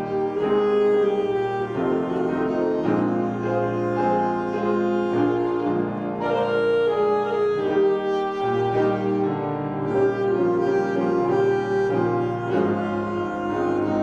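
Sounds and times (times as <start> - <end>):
slow music with strings and piano: 0.0 - 14.0.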